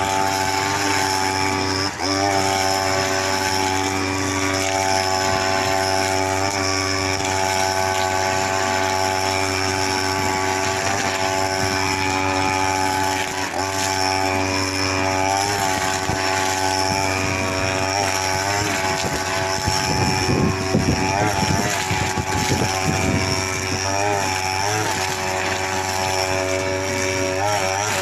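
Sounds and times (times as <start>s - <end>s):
brush cutter cutting grass: 0.0s - 28.0s.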